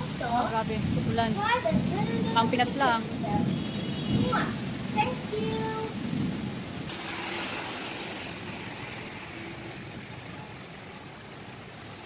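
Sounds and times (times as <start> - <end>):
rain: 0.0 - 12.0
traffic on wet street: 0.0 - 12.0.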